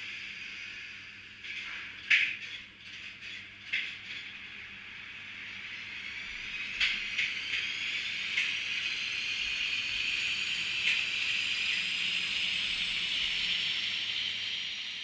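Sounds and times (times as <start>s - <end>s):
model locomotive running sound: 0.0s - 15.0s.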